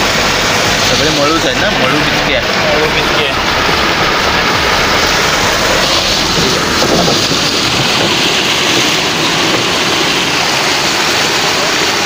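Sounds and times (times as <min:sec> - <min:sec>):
stream rushing over small fall: 0:00.0 - 0:12.0.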